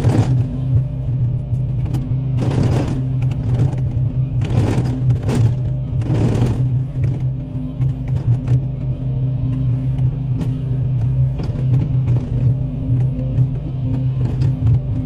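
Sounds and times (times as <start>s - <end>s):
excavator engine running: 0.0s - 15.0s.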